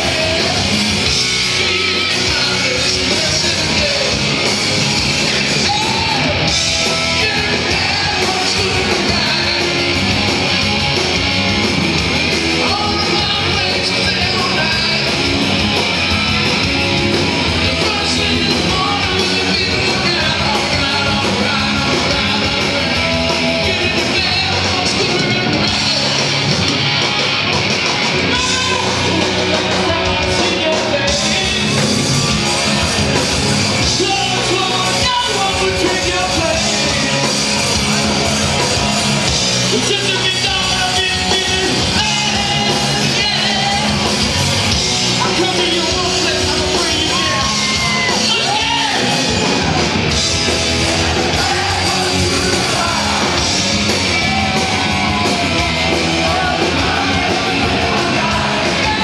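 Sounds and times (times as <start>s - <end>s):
live hard rock band: 0.0s - 59.0s
singer belting and yelling: 0.0s - 59.0s.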